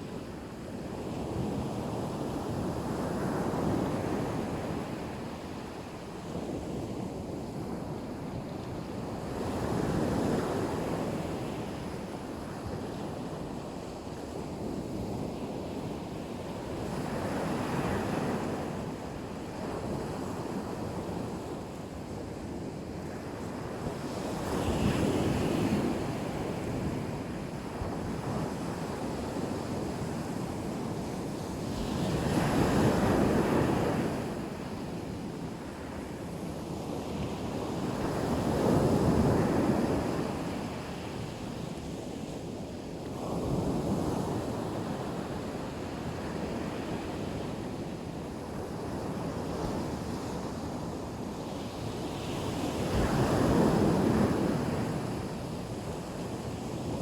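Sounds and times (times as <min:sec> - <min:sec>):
waves breaking on the shore: 0:01.1 - 0:57.0.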